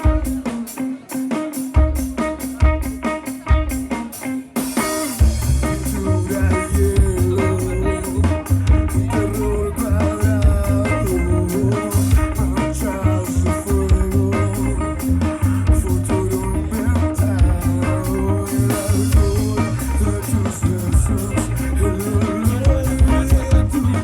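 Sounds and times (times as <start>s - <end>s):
drum beats: 0.0s - 24.0s
live band playing: 0.0s - 24.0s.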